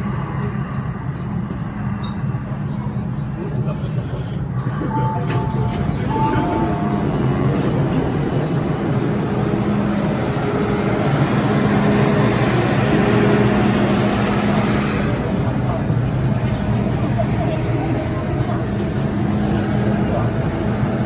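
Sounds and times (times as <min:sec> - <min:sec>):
electric train rumbling hum: 0:00.0 - 0:21.0.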